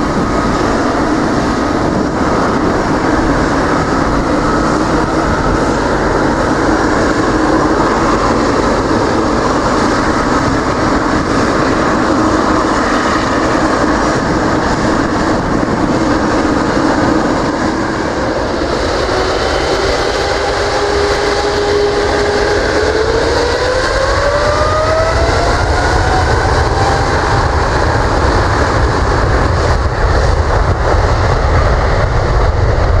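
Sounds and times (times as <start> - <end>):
jet engines running with low hum: 0.0 - 33.0
rising engine whine: 0.0 - 33.0.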